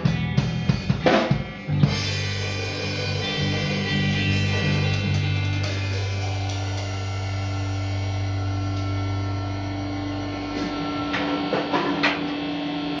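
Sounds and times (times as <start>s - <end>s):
amplifier hum: 0.0s - 13.0s
rock band chord ringing out: 0.0s - 13.0s.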